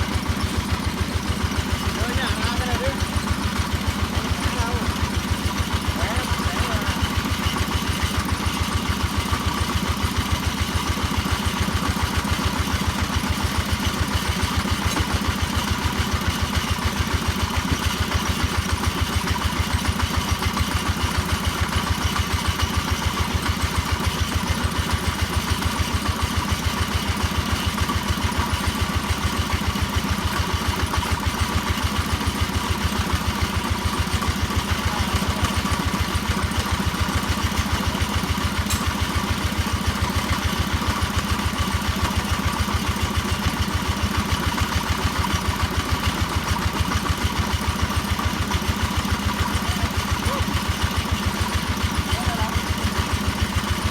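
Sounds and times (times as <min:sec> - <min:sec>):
hammer drill engine running: 0:00.0 - 0:53.9.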